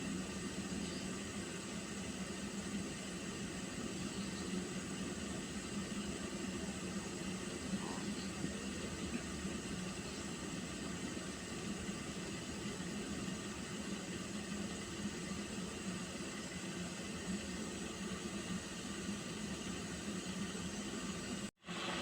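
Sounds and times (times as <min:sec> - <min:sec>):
water heating hiss: 0:00.0 - 0:22.0.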